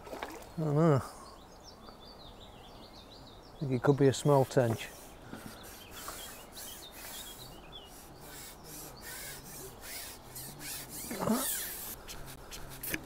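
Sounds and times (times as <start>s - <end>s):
small birds chirping: 0.3s - 13.0s.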